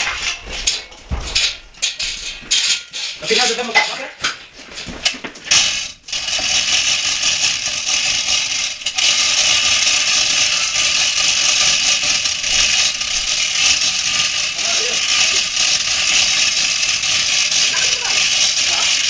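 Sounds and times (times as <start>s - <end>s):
chain hoist rattling: 0.0s - 4.1s, 4.8s - 19.0s.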